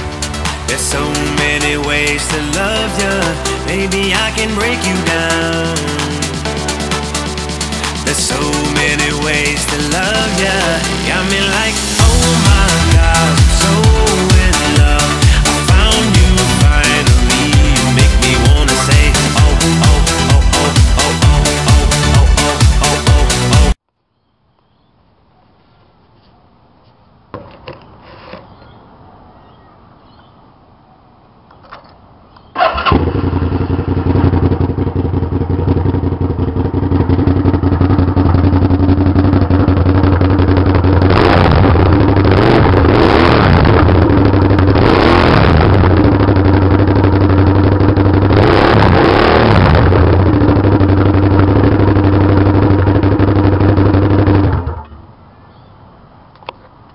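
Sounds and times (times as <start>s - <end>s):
motorcycle engine revving loudly: 0.0s - 23.8s, 32.6s - 55.0s.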